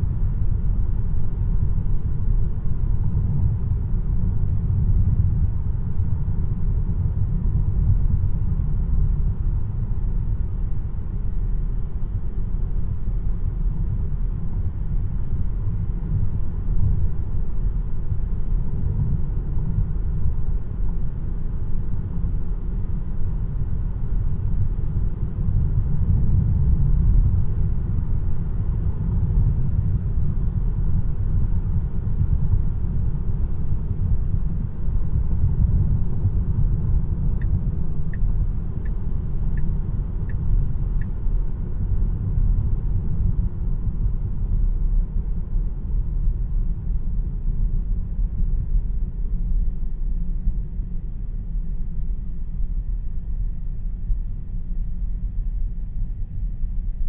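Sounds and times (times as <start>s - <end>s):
road and tyre rumble in car cabin: 0.0s - 52.4s.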